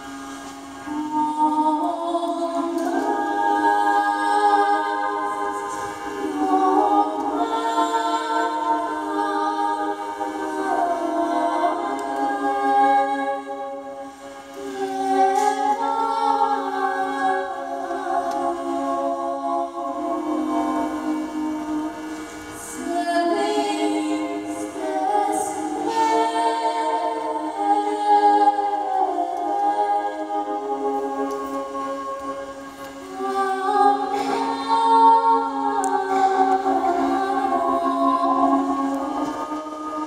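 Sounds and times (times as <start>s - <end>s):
hurdy-gurdy drone and melody: 0.0s - 40.0s
person singing: 0.0s - 40.0s.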